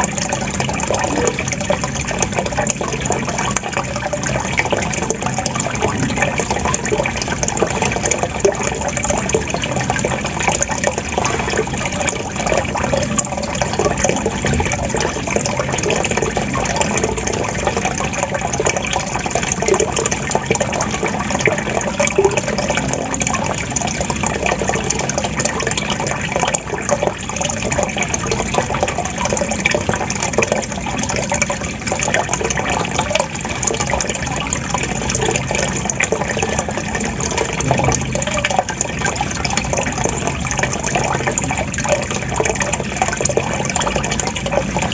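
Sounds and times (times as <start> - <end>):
water gurgling and splashing: 0.0 - 44.9.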